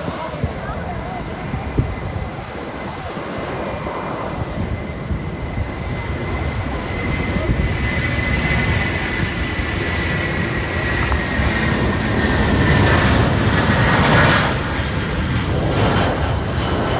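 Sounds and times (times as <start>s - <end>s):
high jet engine whine: 0.0s - 16.9s
jet engines roaring: 0.0s - 16.9s.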